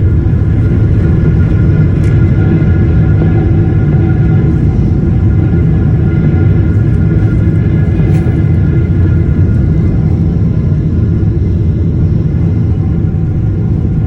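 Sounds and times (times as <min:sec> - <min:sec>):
aircraft engine rumble: 0:00.0 - 0:14.0
faint steady whine: 0:00.0 - 0:14.0.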